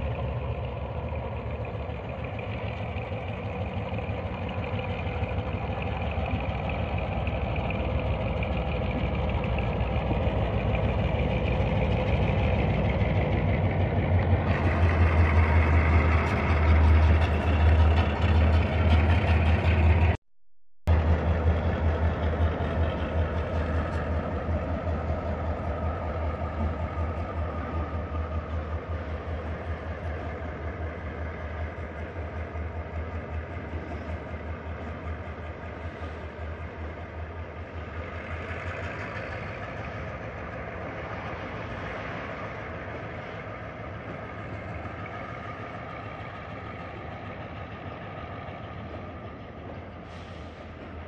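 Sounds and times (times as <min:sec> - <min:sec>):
freight wagons rolling on rails: 0:00.0 - 0:20.2, 0:20.9 - 0:51.0
locomotive engine hum: 0:00.0 - 0:20.2, 0:20.9 - 0:51.0.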